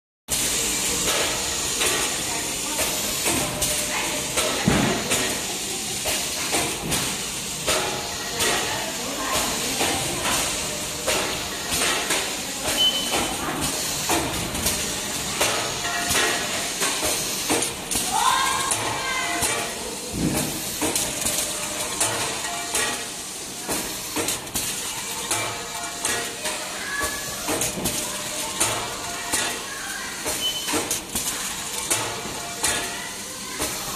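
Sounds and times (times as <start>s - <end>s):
packing machine hiss: 0.3s - 33.9s
machine clacks: 1.0s - 33.9s.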